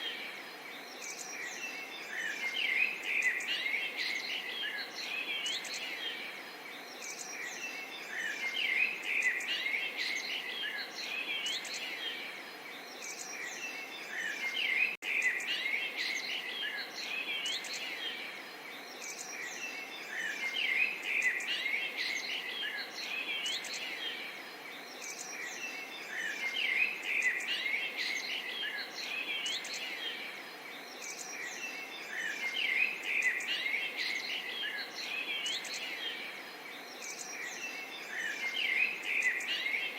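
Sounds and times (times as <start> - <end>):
background hiss: 0.0 - 39.9
small birds chirping: 0.0 - 39.9.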